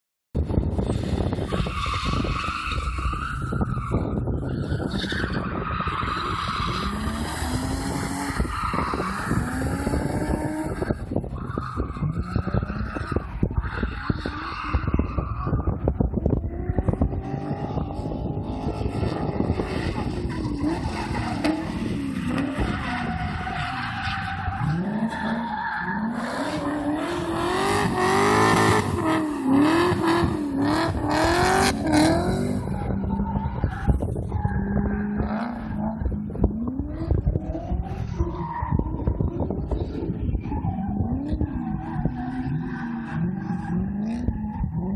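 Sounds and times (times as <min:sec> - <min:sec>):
car engines revving: 0:00.4 - 0:44.9.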